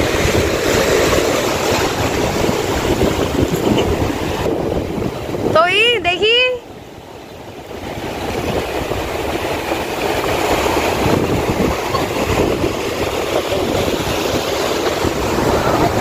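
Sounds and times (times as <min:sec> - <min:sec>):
sea surf breaking: 0:00.0 - 0:16.0
wind rumbling on microphone: 0:00.0 - 0:16.0.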